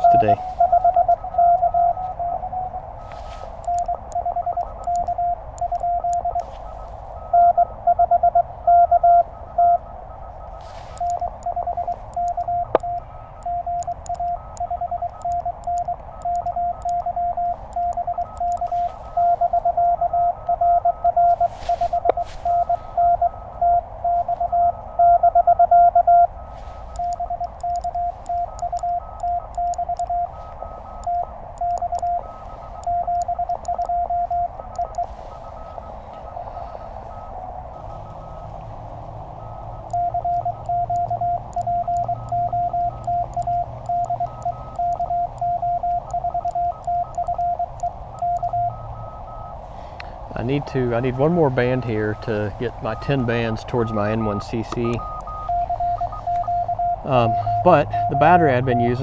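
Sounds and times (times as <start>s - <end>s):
morse code tone: 0.0s - 59.0s
receiver hiss: 0.0s - 59.0s.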